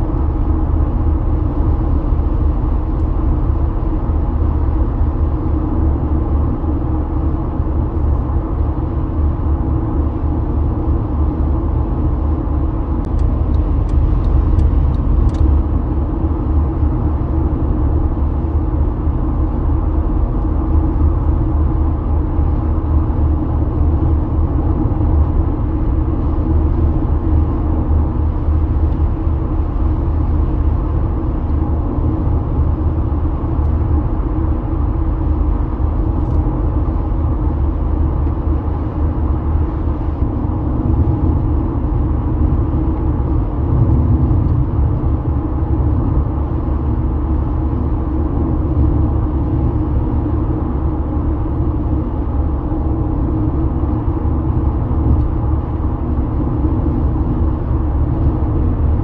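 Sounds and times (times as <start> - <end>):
car road noise at highway speed: 0.0 - 59.0.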